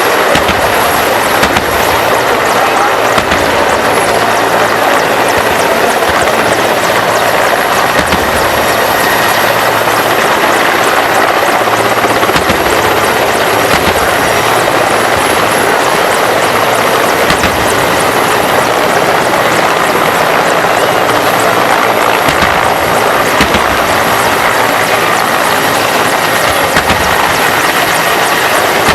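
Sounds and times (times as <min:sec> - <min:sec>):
helicopter rotor and turbine: 0:00.0 - 0:28.9.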